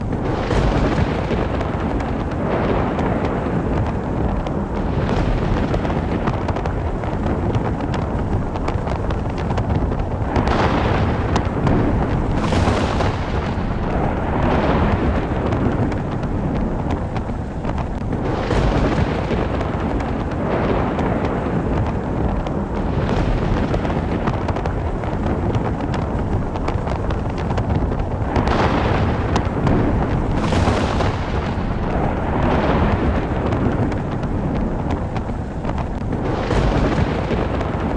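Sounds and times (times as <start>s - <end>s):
steady rushing noise: 0.0s - 37.9s
thunder rumbling: 0.0s - 37.9s.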